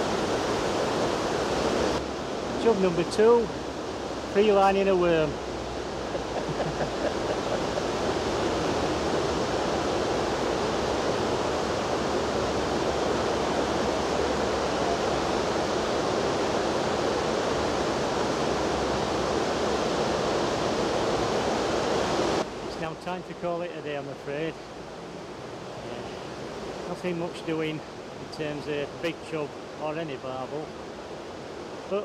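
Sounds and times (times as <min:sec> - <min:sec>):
river water rushing over rapids: 0:00.0 - 0:23.4, 0:24.0 - 0:32.0.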